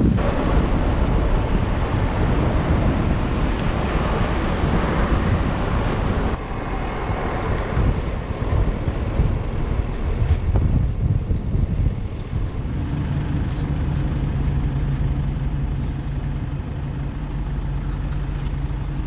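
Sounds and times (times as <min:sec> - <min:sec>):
vehicle running and tyre noise: 0:00.0 - 0:19.0
wind rushing over microphone: 0:00.0 - 0:19.0.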